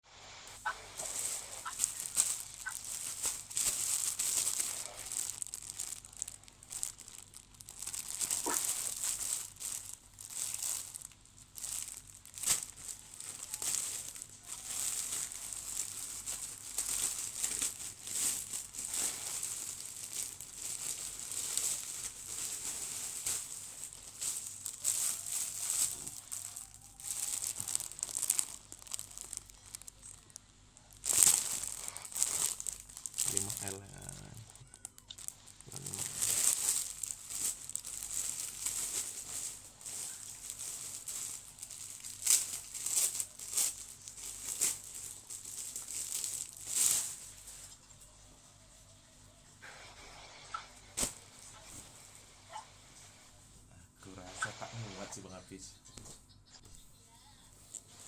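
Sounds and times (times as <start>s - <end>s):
plastic tearing: 0.5s - 47.8s, 50.5s - 51.9s
plastic packaging crinkling: 0.5s - 47.9s, 50.5s - 51.9s, 57.6s - 58.0s.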